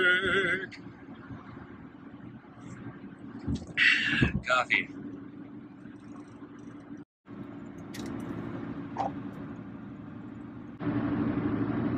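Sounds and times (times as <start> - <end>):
car engine and road hum: 0.0 - 11.9.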